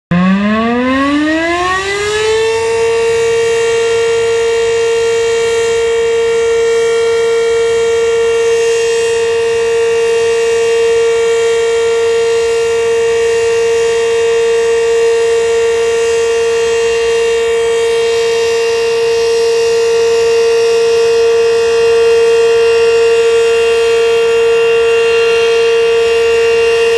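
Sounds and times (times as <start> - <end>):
outdoor warning siren: 0.1 - 26.9.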